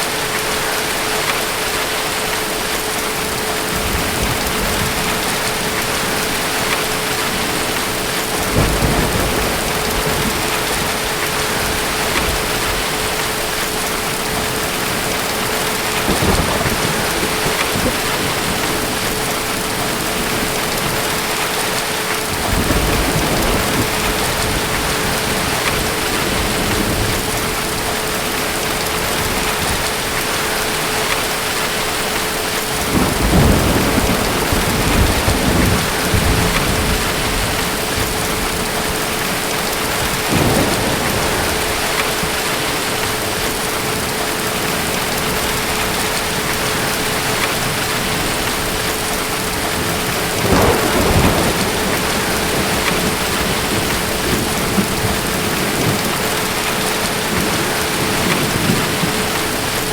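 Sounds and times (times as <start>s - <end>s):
steady rain: 0.0s - 59.9s
thunder rumbling: 2.4s - 59.9s.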